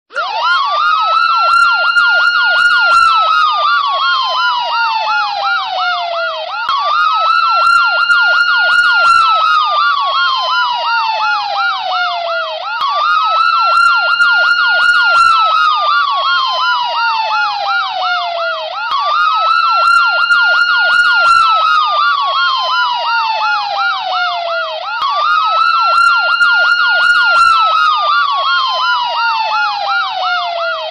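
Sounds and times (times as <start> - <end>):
ambulance siren ringtone: 0.1 - 30.9.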